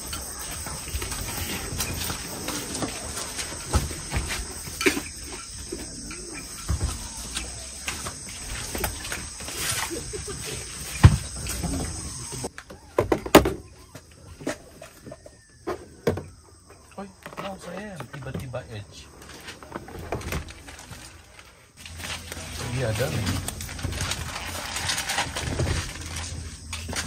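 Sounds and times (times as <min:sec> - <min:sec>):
birds calling faintly: 0:00.0 - 0:21.8.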